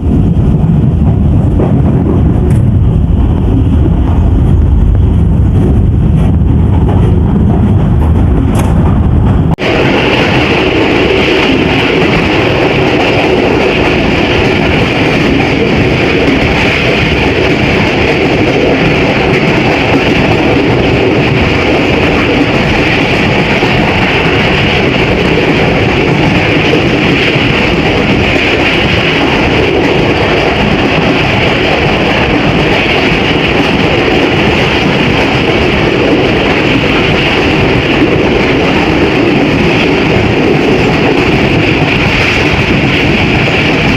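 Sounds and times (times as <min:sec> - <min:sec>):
moving train rumble and hiss: 0:00.0 - 0:43.9.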